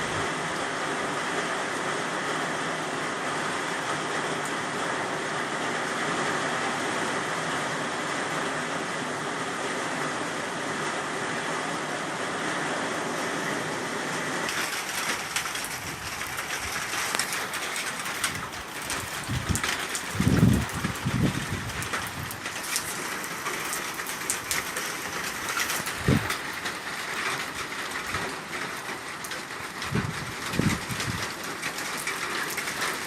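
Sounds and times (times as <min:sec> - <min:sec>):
heavy rain falling: 0:00.0 - 0:33.0
raindrops pattering on a surface: 0:00.0 - 0:33.0.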